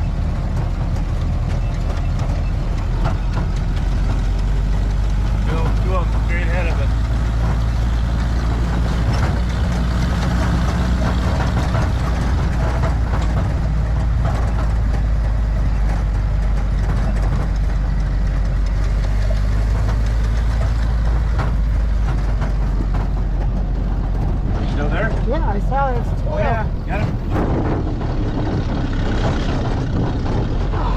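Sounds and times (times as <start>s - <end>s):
jeep engine running: 0.0s - 30.9s.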